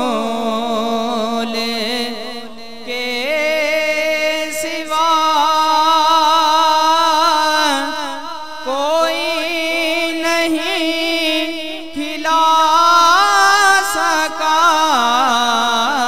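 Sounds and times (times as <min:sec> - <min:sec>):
devotional singing: 0:00.0 - 0:16.0.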